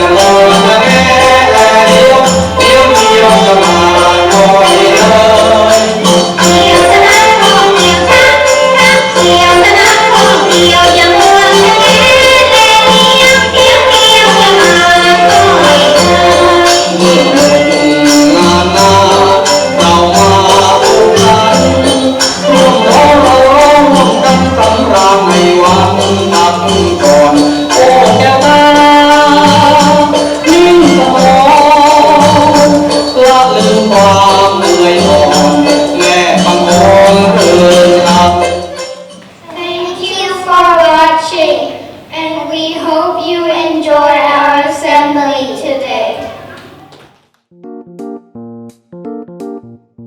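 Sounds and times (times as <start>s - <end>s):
repeating percussion beat: 0.0s - 39.4s, 47.5s - 49.8s
folk song singing: 0.0s - 41.5s.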